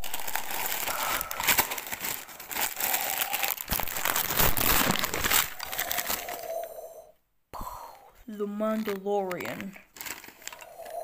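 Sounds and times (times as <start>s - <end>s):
wrapping paper tearing and crumpling: 0.0s - 6.7s, 8.6s - 11.0s.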